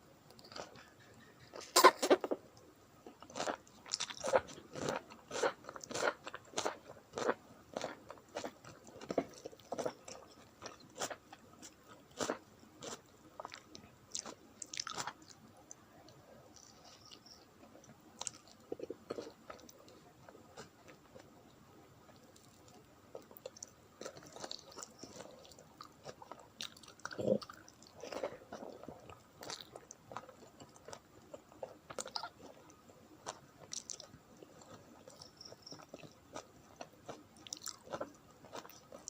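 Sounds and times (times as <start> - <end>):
wet chewing and smacking: 3.1 - 15.8, 16.5 - 39.0.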